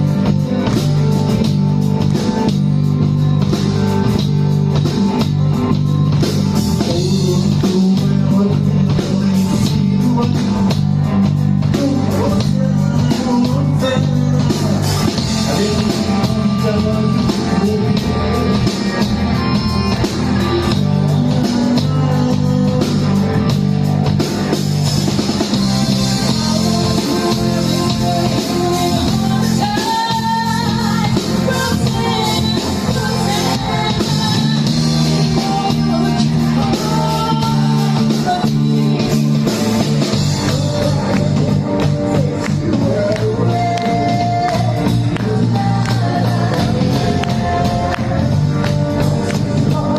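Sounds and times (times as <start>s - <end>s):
live rock band music: 0.0s - 49.9s
person singing: 0.0s - 49.9s.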